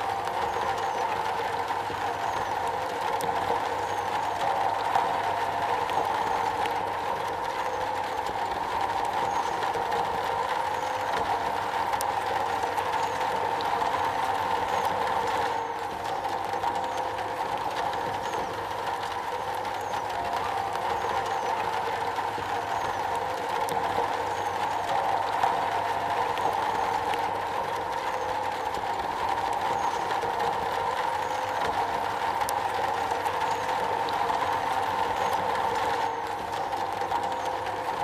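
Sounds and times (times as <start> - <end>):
rain drumming on a metal roof: 0.0 - 38.0.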